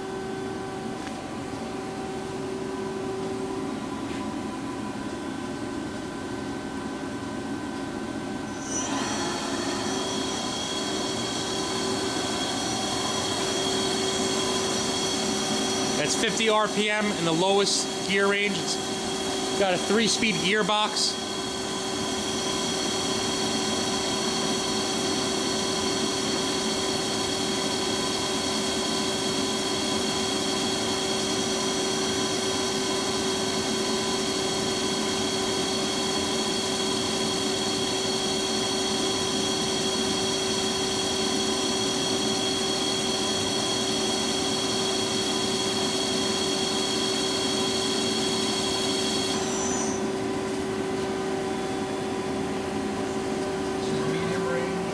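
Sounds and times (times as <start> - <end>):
high machine whine: 0.0 - 54.9
machine spindle drive hum: 0.0 - 54.9.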